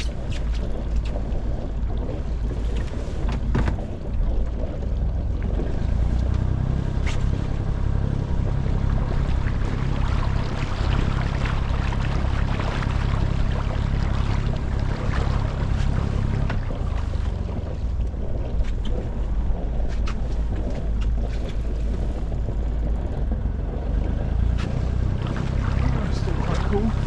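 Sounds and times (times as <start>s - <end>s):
boat diesel engine droning: 0.0s - 27.0s.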